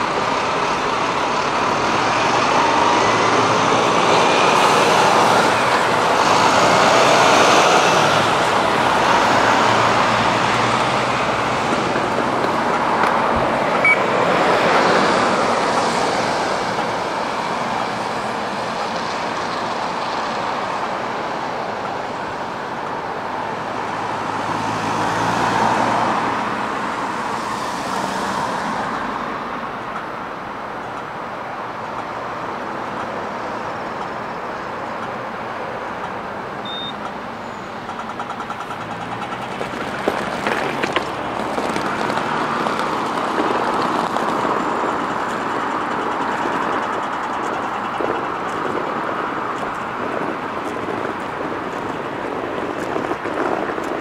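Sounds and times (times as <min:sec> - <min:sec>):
passing cars: 0:00.0 - 0:54.0.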